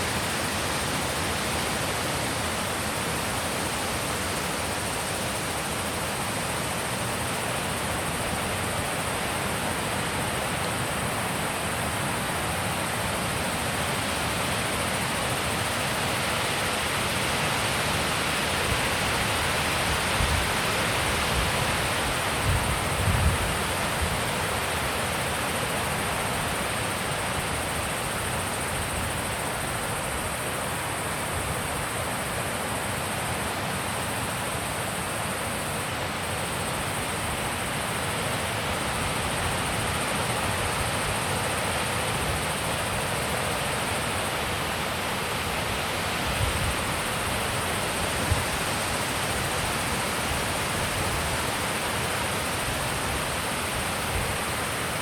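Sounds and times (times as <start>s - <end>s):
wind rushing hiss: 0.0s - 55.0s.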